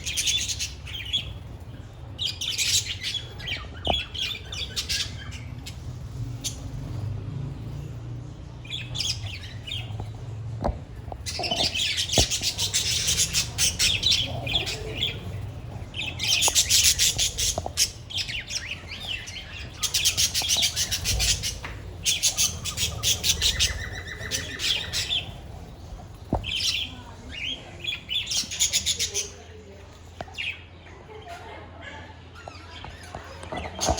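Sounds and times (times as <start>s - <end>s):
budgerigars chattering and chirping: 0.0s - 7.1s, 8.6s - 10.3s, 10.9s - 29.7s, 32.4s - 33.9s.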